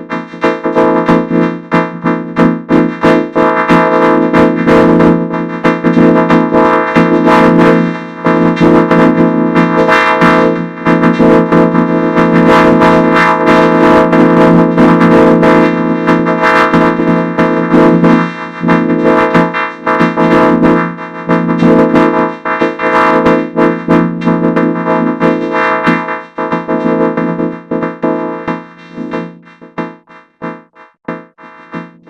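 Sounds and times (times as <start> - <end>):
buzzing stacked music tones: 0.0 - 32.0.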